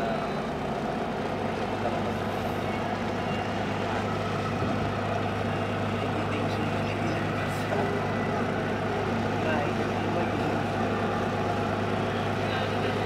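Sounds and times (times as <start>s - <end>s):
ship's engines droning: 0.0s - 13.0s.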